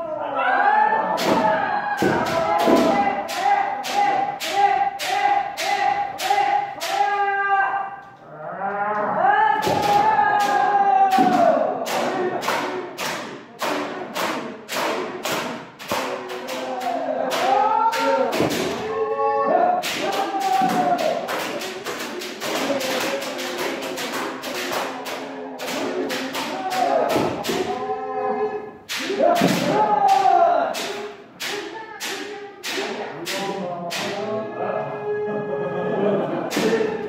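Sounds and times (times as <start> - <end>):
people shouting: 0.0 - 37.0.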